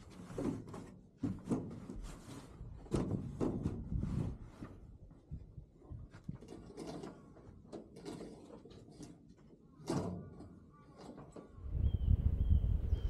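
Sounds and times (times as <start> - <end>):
knocks and clunks of handling: 0.0 - 11.6.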